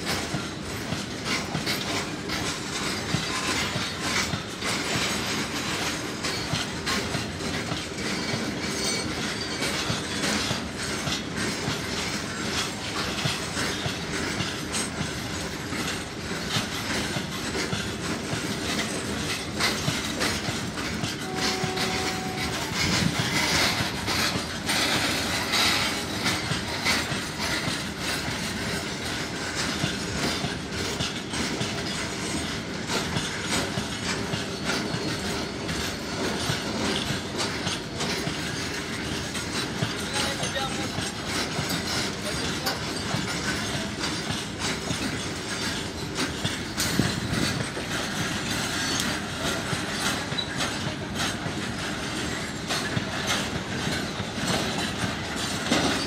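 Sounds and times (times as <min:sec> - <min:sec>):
train wagons rattling: 0:00.0 - 0:56.0
wheels clickety-clack on rail joints: 0:00.0 - 0:56.0.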